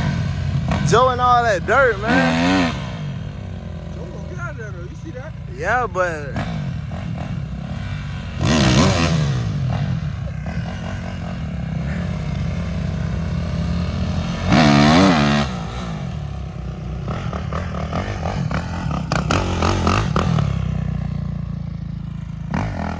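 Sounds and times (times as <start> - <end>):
dirt bike engines revving: 0.0 - 22.9.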